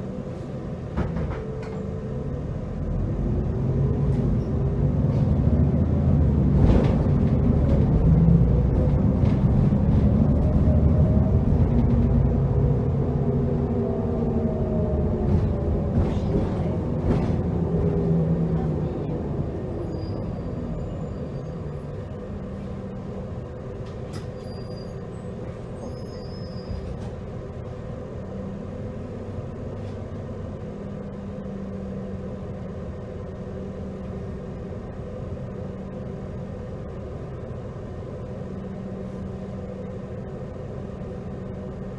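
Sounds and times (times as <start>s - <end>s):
bus engine winding down: 0.0s - 41.9s.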